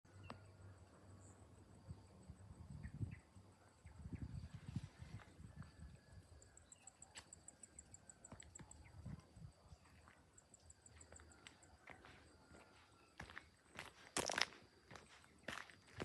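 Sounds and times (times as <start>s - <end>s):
insect chirping: 0.1s - 16.0s.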